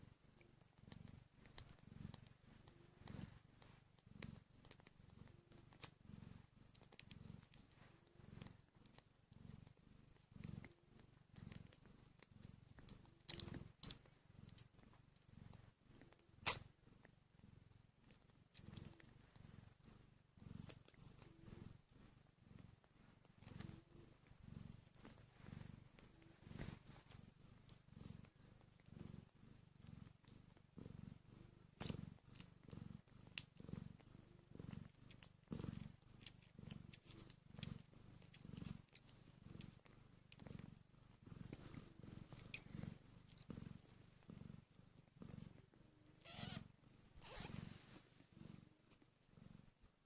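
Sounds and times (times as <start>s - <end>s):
cat purring softly: 0.0s - 50.0s.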